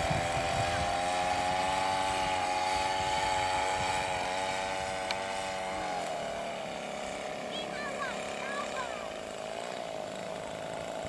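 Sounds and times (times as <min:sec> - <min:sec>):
model plane engine droning: 0:00.0 - 0:11.0.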